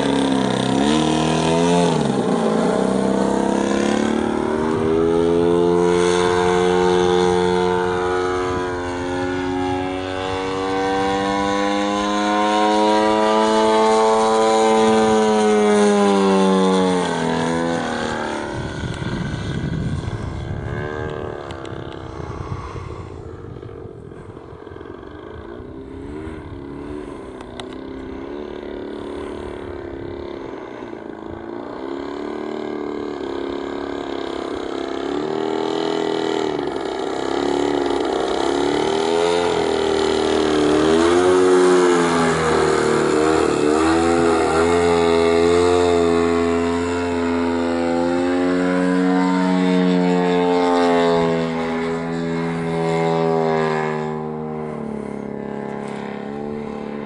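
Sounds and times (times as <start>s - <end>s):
model plane engine buzzing: 0.0s - 57.0s.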